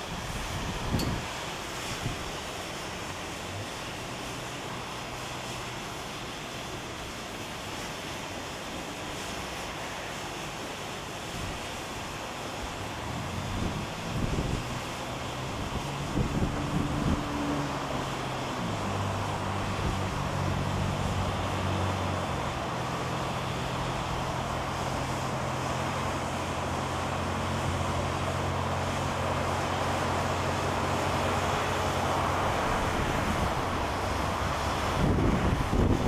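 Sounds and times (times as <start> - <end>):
distant road traffic: 0.0 - 36.0.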